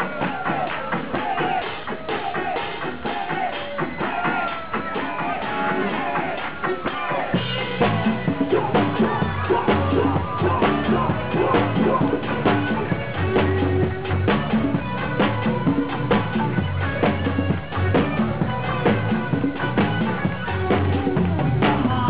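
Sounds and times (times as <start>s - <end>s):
live rock band playing: 0.0s - 22.0s
steady drum beat: 0.0s - 22.0s.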